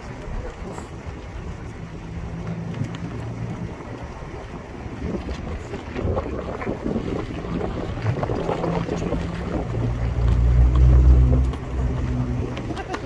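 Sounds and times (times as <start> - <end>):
vehicle engine humming: 0.0 - 13.0
wind buffeting microphone: 0.0 - 13.0.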